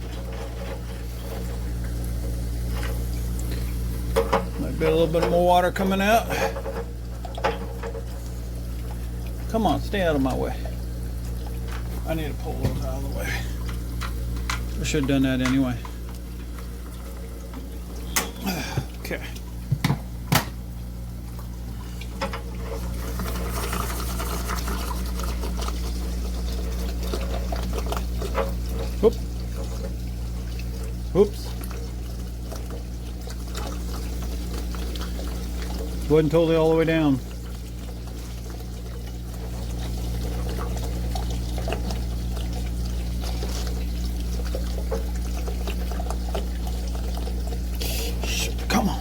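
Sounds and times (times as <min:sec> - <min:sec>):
steady low hum: 0:00.0 - 0:49.0
water splashing and trickling: 0:00.0 - 0:49.0.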